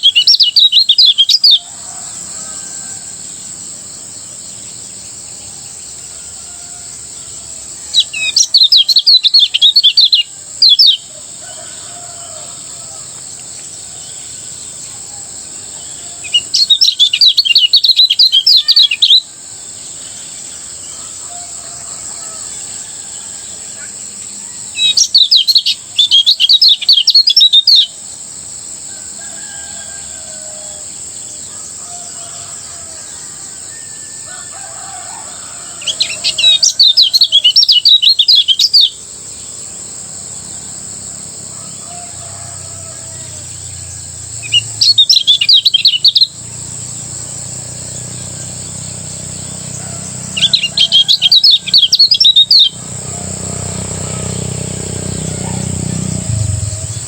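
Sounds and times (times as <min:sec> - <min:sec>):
bird singing rattling song: 0:00.0 - 0:28.1, 0:35.3 - 0:40.9, 0:42.6 - 0:57.0.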